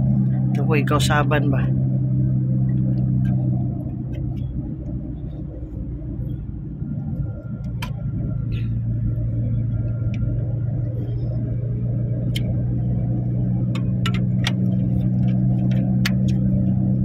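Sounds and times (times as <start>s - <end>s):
road rumble: 0.0s - 17.0s
vehicle engine hum: 0.0s - 17.0s.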